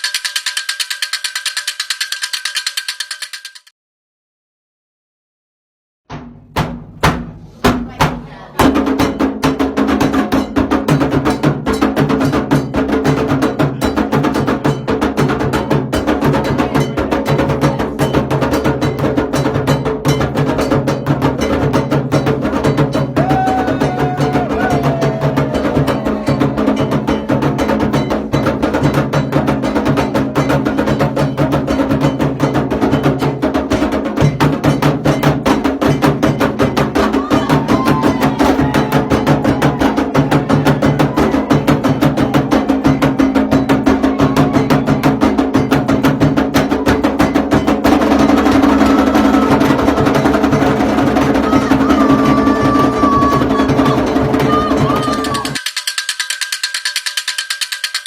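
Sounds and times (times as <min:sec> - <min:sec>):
sharp clicking percussion: 0:00.0 - 0:03.7, 0:09.0 - 0:44.1, 0:44.7 - 0:58.0
hand drumming: 0:06.1 - 0:58.0.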